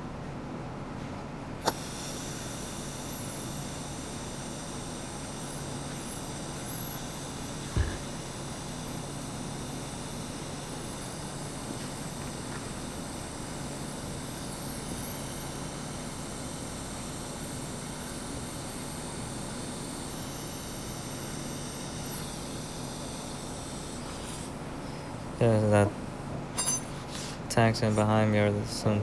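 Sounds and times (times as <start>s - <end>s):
faint wavering high whine: 1.6s - 25.9s, 26.6s - 29.0s.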